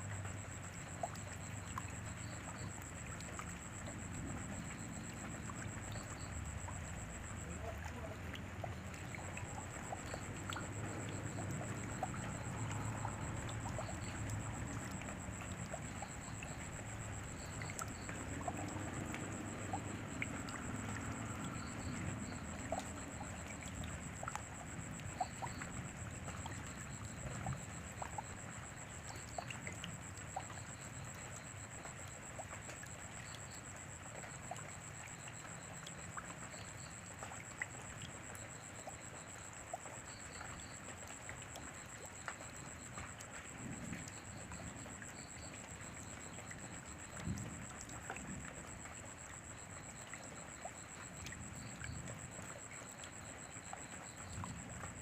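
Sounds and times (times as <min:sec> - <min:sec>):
drips ticking: 0:00.0 - 0:55.0
steady rainfall: 0:00.0 - 0:55.0.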